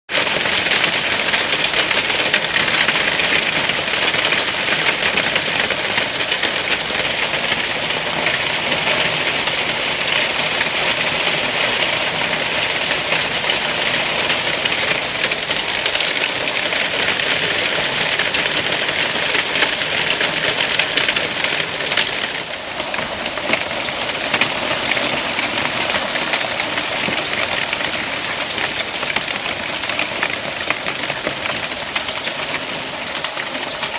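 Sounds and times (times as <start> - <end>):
hail pelting roof and pavement: 0.1 - 33.9.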